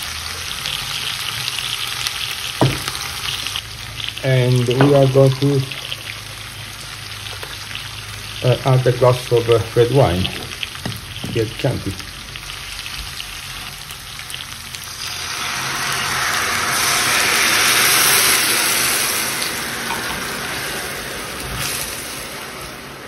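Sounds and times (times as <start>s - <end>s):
pan sizzling and crackling: 0.0s - 23.0s.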